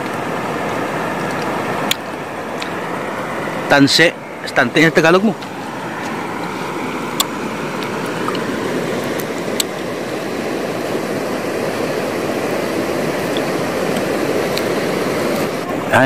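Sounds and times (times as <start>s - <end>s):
sea surf breaking: 0.0s - 16.0s.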